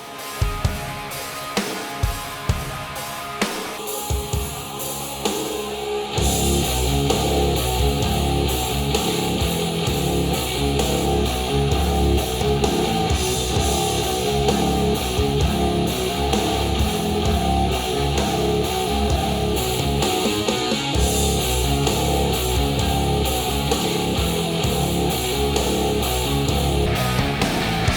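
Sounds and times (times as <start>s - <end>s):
strummed guitar music over speaker: 0.0s - 27.9s.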